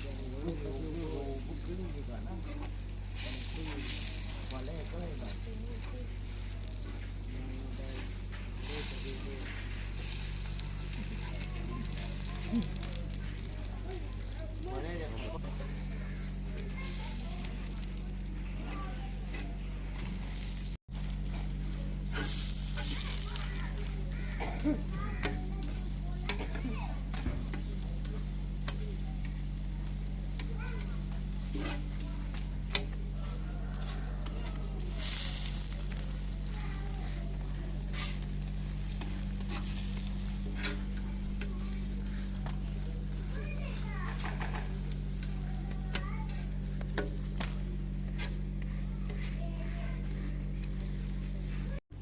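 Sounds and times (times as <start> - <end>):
oil sizzling on griddle: 0.0 - 51.8
faint voices: 0.0 - 52.0
steady low hum: 0.0 - 52.0.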